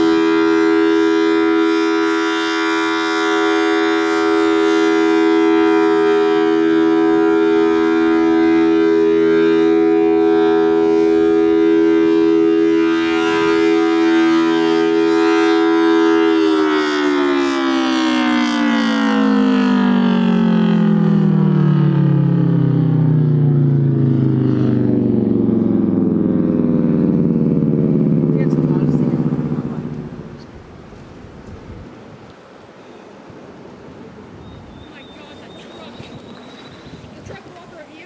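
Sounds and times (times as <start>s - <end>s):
dual-tone warning siren: 0.0s - 31.0s, 34.3s - 38.0s.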